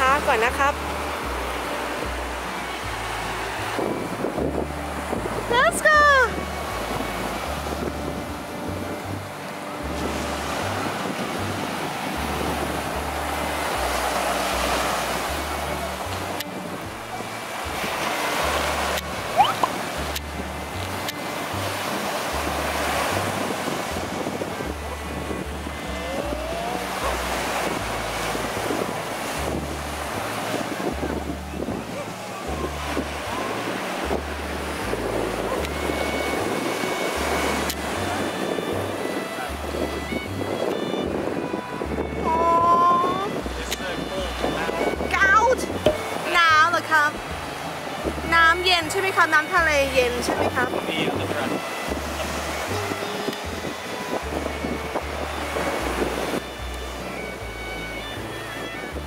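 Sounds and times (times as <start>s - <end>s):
background music with bass: 0.0s - 59.0s
waves washing up a beach: 0.0s - 59.0s
wind on microphone: 0.0s - 59.0s.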